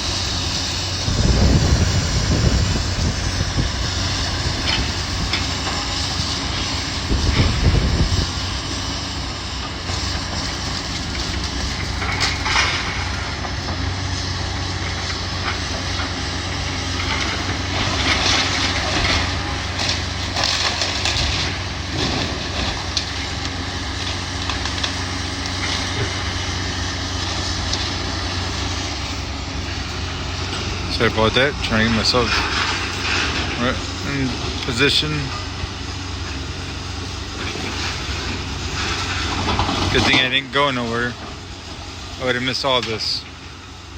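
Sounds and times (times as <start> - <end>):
debris crunching and scraping: 0.0 - 43.3
demolition machinery diesel drone: 0.0 - 43.9.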